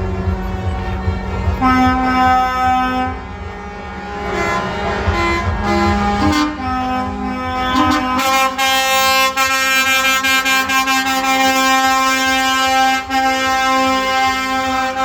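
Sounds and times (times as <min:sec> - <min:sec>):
truck air horns blaring: 0:00.0 - 0:15.0.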